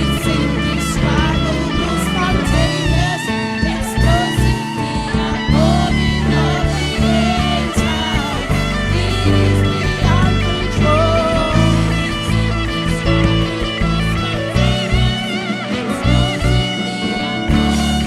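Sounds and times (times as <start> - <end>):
band playing instrumental: 0.0 - 18.0
guitar melodic lines: 0.0 - 18.0.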